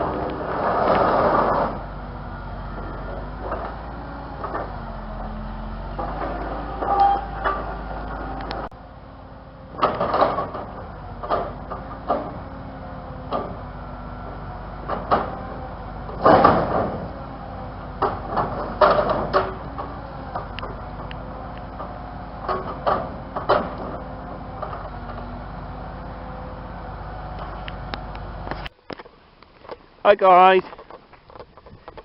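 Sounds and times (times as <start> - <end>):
vehicle running steadily: 0.0 - 30.0
rattles and clunks over rough ground: 0.0 - 32.0.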